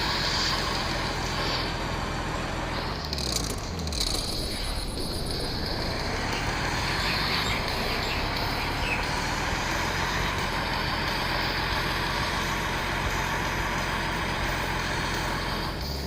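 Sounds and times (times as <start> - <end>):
continuous noise: 0.0 - 16.0
truck engine running: 0.0 - 16.0.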